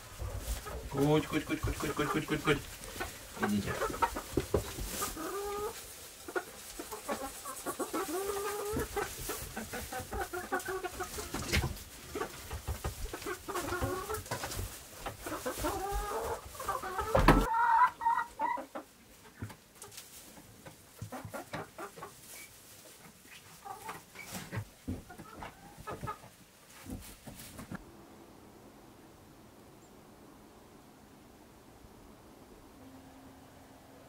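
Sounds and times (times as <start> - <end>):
hens clucking: 0.0 - 28.2.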